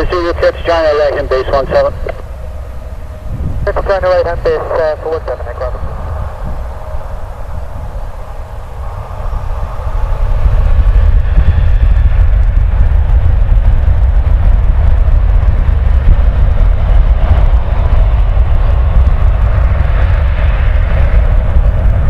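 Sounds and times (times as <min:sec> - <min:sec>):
jet engines spooling up: 0:00.0 - 0:22.0.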